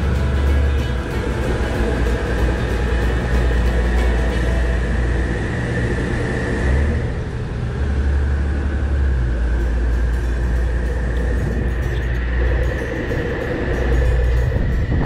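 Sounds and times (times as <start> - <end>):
boat engine rumbling: 0.0 - 15.0
faint engine whine: 0.0 - 15.0.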